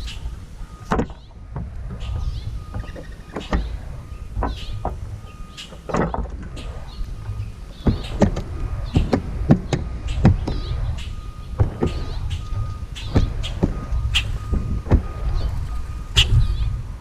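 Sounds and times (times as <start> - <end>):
birds chirping: 0.0 - 17.0
low rumble: 0.0 - 17.0.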